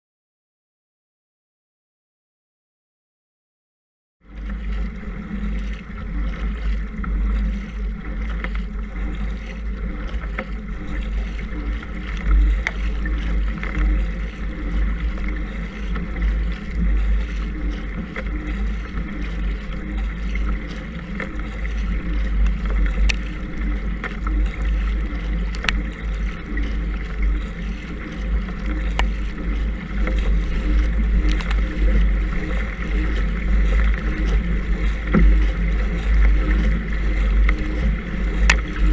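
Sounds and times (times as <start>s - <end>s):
paddle splashing: 4.2s - 38.9s
water rushing along hull: 4.2s - 38.9s
wind rumble on microphone: 4.2s - 38.9s.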